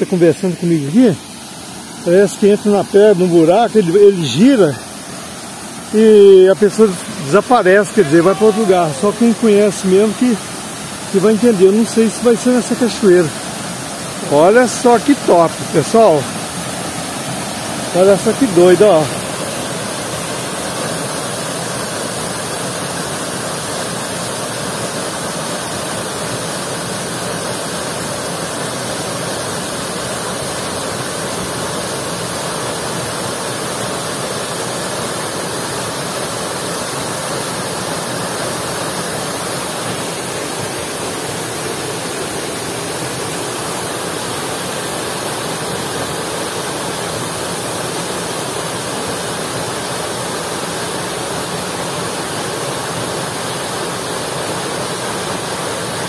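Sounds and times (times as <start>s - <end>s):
waterfall rushing into a pool: 0.0s - 56.0s.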